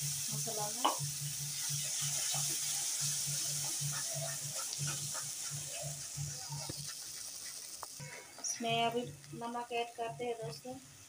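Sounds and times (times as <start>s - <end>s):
puree sizzling in hot oil: 0.0s - 11.0s.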